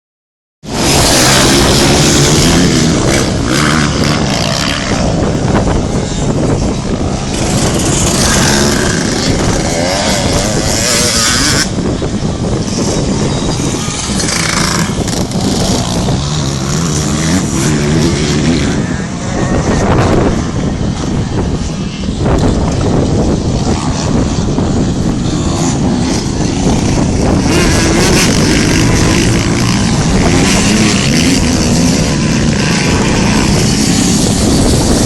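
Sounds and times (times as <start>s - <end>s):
wind buffeting microphone: 0.6s - 35.0s
motocross bike engines revving: 0.7s - 35.0s.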